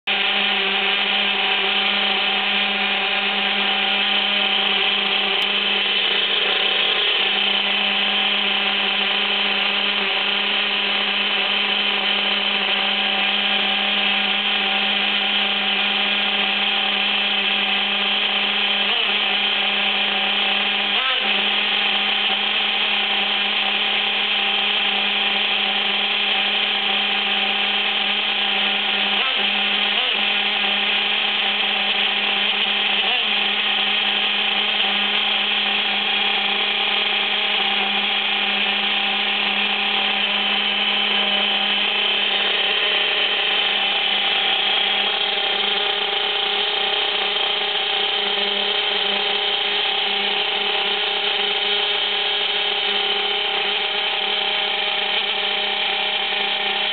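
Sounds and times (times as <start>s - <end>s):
drivetrain gears running: 0.1s - 56.9s
small nitro engine idling: 0.1s - 56.9s.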